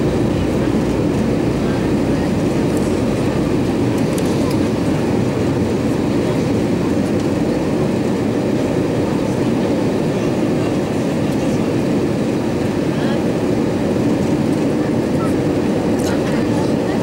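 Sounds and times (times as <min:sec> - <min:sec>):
aircraft cabin engine and airflow roar: 0:00.0 - 0:17.0.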